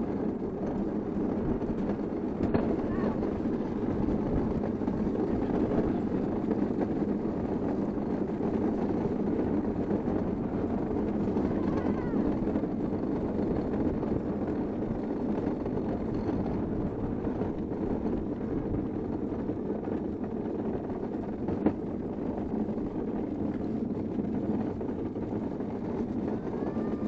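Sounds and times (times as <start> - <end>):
kart rattling: 0.0 - 27.0
wheels rumbling on asphalt: 0.0 - 27.0
wind on microphone: 0.0 - 27.0.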